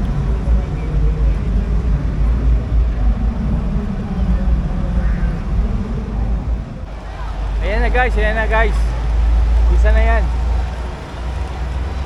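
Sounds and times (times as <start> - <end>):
crowd murmuring: 0.0 - 12.0
steady low rumble: 0.0 - 12.0.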